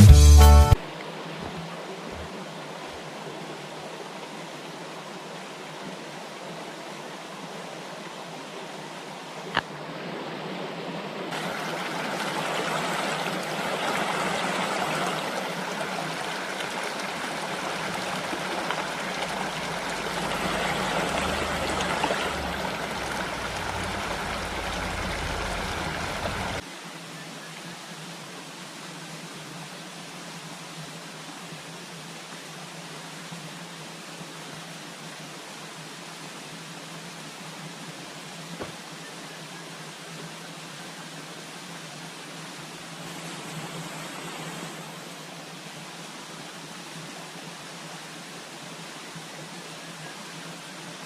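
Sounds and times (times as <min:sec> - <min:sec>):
flowing water rushing: 0:00.6 - 0:51.0.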